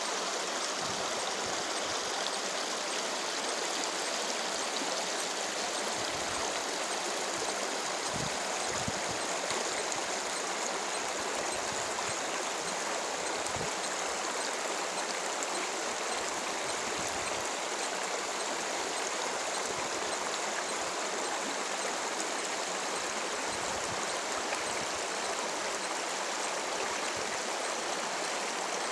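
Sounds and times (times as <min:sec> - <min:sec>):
flowing water rushing: 0:00.0 - 0:28.9.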